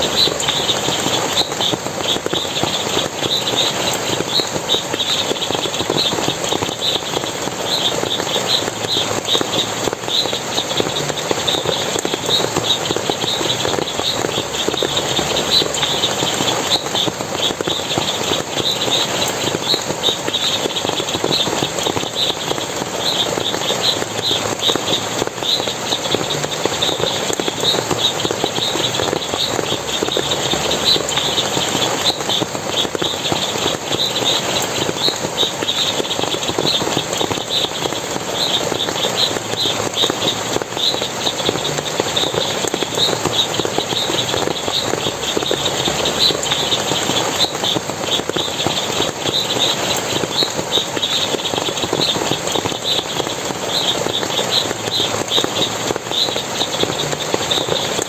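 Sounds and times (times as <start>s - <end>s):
splashing water: 0.0s - 58.0s.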